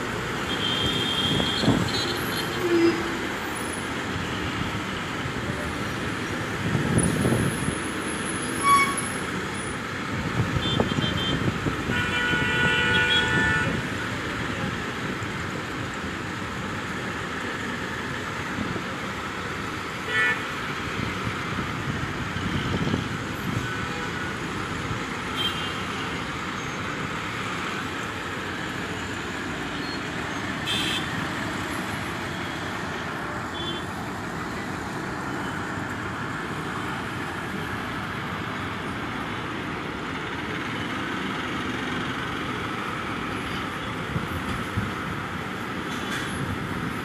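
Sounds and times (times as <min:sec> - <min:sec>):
road traffic engines running: 0:00.0 - 0:47.0.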